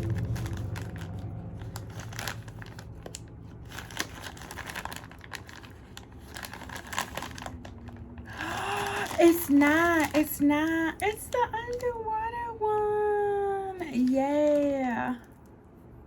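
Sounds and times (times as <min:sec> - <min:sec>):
plastic bag crinkling and tearing: 0:00.0 - 0:12.0, 0:13.9 - 0:15.2.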